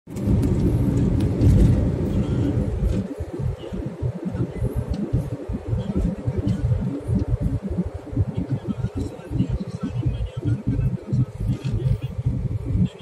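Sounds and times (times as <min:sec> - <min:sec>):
car engine and road noise: 0:00.1 - 0:13.0.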